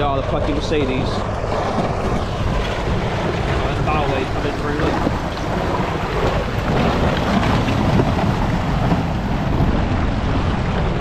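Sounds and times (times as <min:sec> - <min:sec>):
water surging: 0:00.0 - 0:11.0
wind buffeting microphone: 0:00.0 - 0:11.0.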